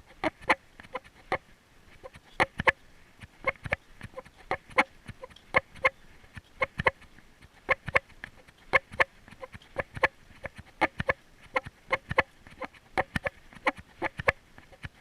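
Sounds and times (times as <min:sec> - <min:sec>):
animal clucking pops: 0:00.1 - 0:15.0.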